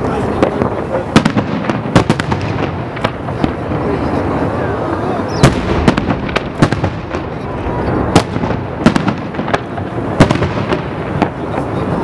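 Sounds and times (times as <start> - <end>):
rumble of further reports: 0.0 - 12.0.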